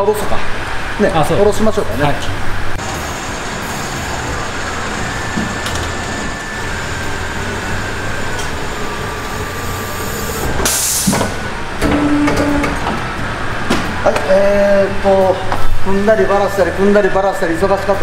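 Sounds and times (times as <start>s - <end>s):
car lift mechanical hum: 0.0s - 18.0s.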